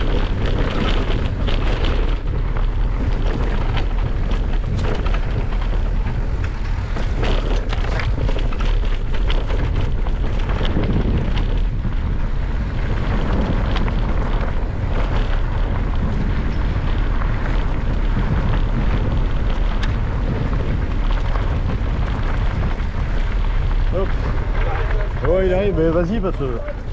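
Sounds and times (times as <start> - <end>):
bike rattling over rough ground: 0.0 - 26.9
wind rumble on microphone: 0.0 - 26.9.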